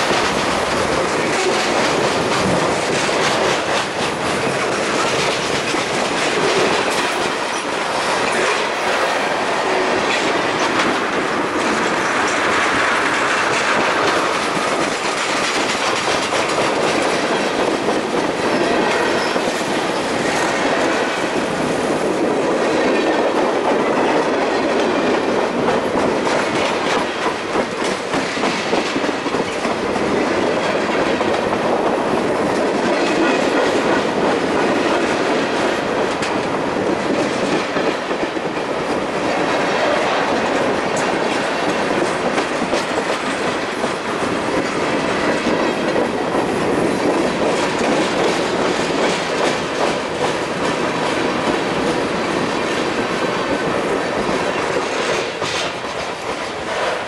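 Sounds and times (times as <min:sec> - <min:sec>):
freight cars rumbling and rattling: 0:00.0 - 0:57.0
wheels clicking over rail joints: 0:00.0 - 0:57.0.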